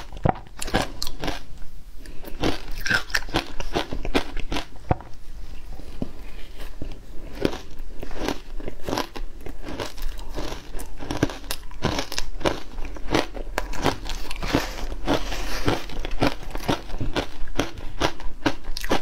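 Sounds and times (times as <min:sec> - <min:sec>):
crunchy ice being chewed: 0:00.6 - 0:01.5, 0:02.1 - 0:04.8, 0:06.6 - 0:19.0.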